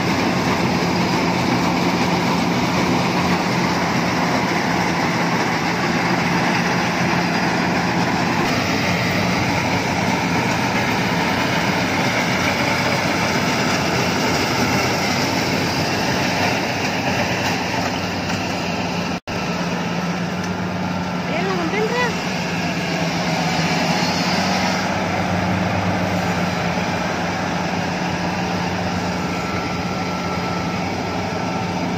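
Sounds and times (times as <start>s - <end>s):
combine harvester engine running: 0.0s - 31.9s.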